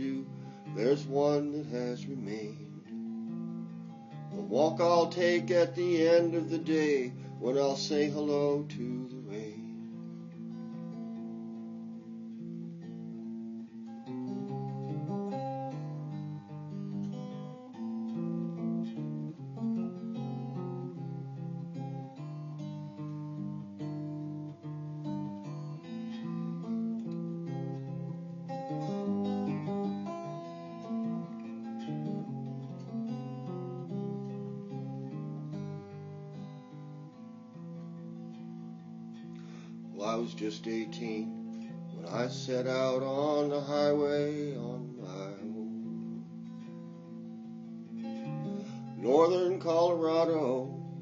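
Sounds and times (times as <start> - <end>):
guitar strumming chords: 0.0 - 51.0.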